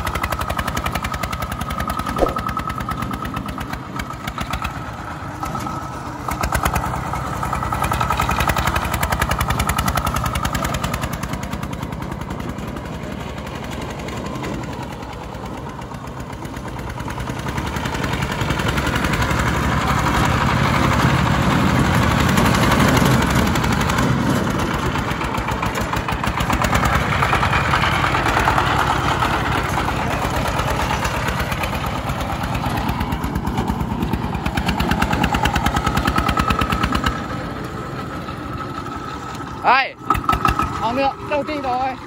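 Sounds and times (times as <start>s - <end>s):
tractor diesel engine chugging: 0.0s - 42.0s.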